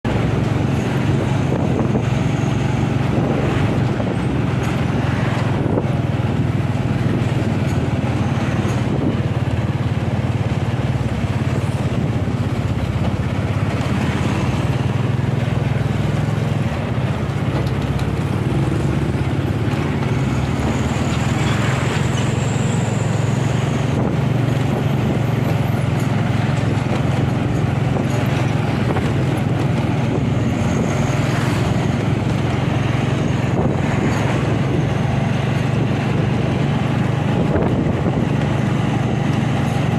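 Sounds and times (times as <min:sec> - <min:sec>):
road and wind noise: 0:00.0 - 0:39.9
vehicle engine drone: 0:00.0 - 0:39.9.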